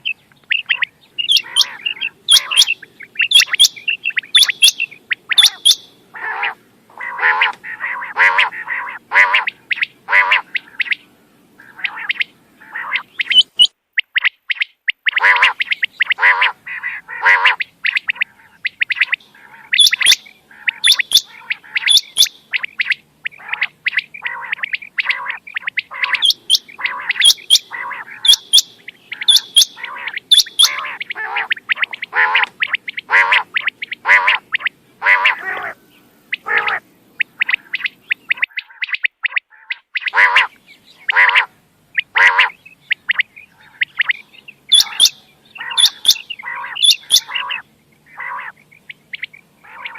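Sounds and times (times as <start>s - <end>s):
quail calling: 0.0s - 49.9s.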